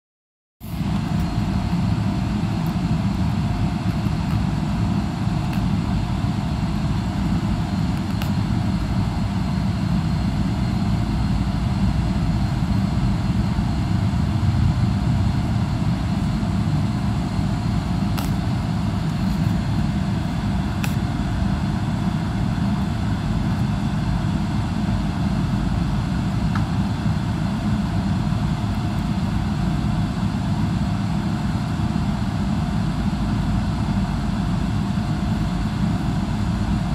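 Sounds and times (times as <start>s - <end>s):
aircraft cabin low rumble: 0.6s - 36.9s.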